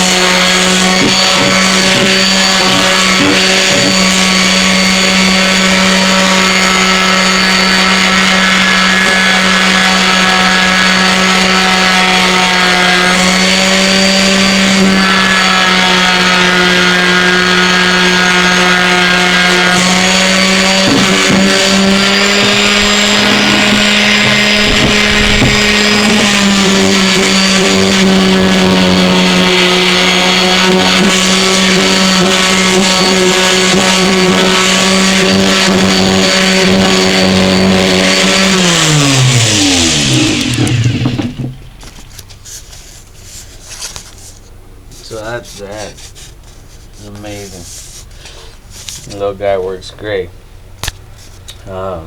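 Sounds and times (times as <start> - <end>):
orbital sander sanding wood: 0.0 - 49.8.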